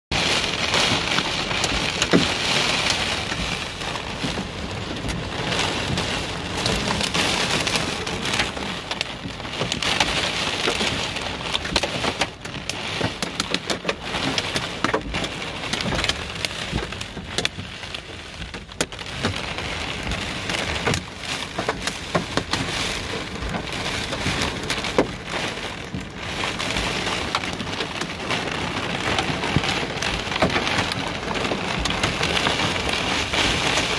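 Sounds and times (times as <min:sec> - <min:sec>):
hail hitting car: 0:00.1 - 0:33.9
rain hissing on car roof: 0:00.1 - 0:33.9.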